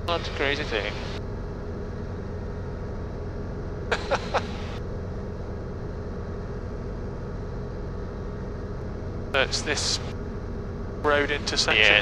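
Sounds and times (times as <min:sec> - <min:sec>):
helicopter drone over intercom: 0:00.0 - 0:12.0.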